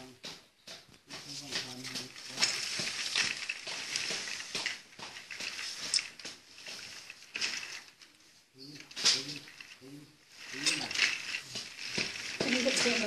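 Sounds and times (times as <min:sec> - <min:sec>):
plastic baby walker rattling: 0:01.2 - 0:13.0.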